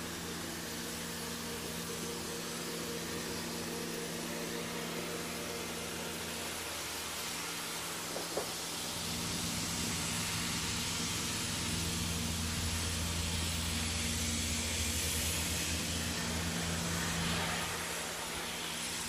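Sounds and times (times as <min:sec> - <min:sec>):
motor vehicle engine hum: 0:00.0 - 0:19.0.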